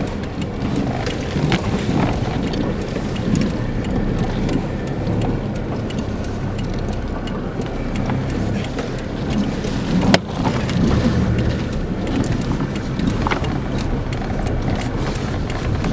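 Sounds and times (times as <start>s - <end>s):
rattles and knocks of vehicle body: 0.0s - 15.9s
vehicle engine and tyre rumble: 0.0s - 15.9s.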